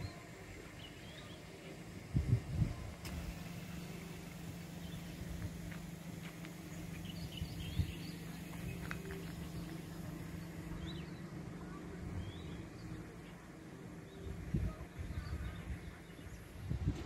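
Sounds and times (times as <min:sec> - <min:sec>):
small birds chirping: 0:00.0 - 0:16.8
low outdoor rumble: 0:00.0 - 0:17.0.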